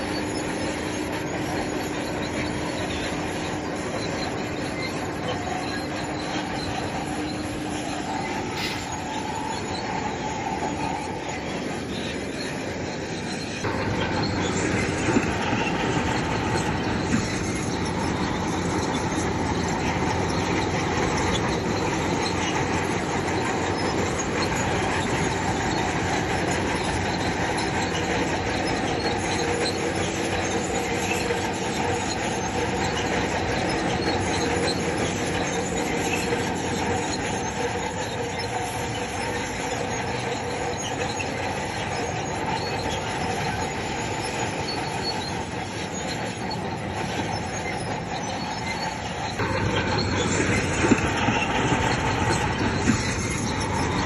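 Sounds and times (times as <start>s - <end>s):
bulldozer engine running: 0.0s - 54.0s
crawler tracks squealing and clanking: 0.0s - 54.0s.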